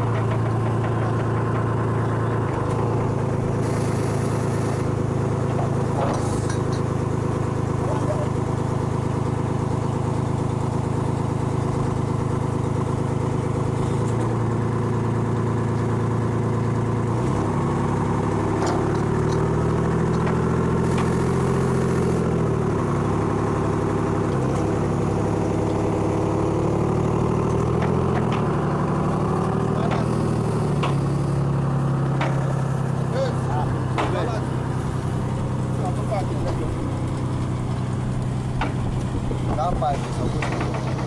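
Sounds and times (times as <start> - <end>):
crane engine running: 0.0 - 41.0.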